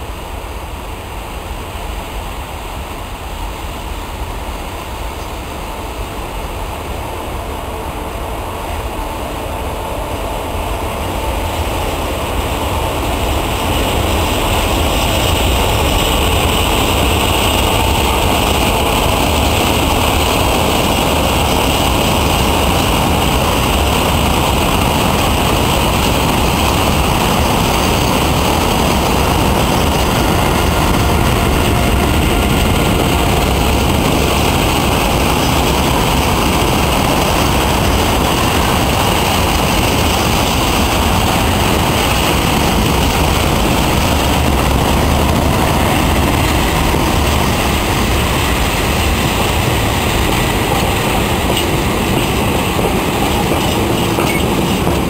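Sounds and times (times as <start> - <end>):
freight train wheels on rail: 0.0 - 55.0.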